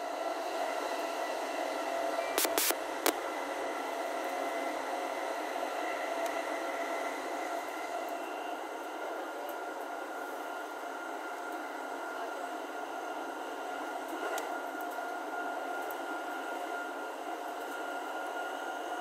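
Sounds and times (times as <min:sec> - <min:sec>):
electric train running: 0:00.0 - 0:19.0.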